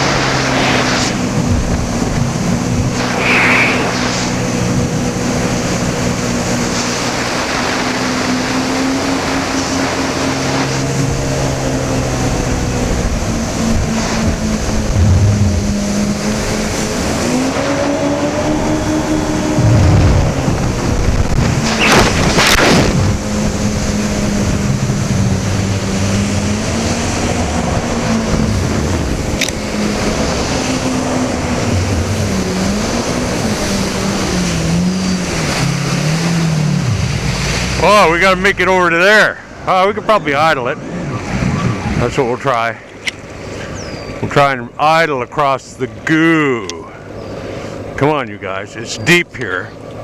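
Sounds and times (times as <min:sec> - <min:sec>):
personal watercraft engine running: 0:00.0 - 0:50.0
wind: 0:00.0 - 0:50.0.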